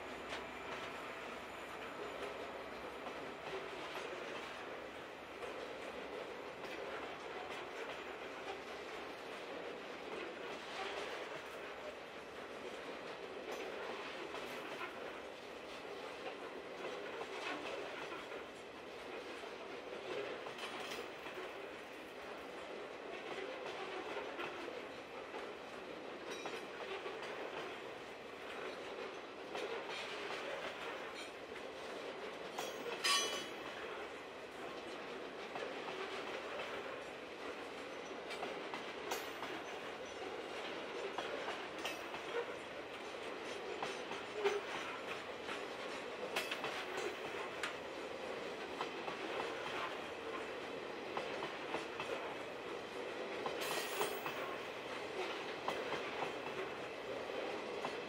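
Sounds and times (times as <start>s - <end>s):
steel wheels rolling on rails: 0.0s - 58.0s.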